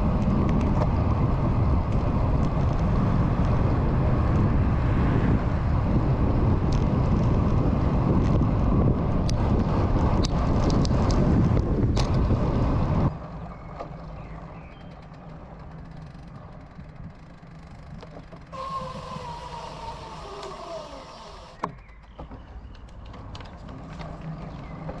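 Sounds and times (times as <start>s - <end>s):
bicycle rattles and clicks: 0.0s - 25.0s
bicycle tyres rumbling on tarmac: 0.0s - 25.0s.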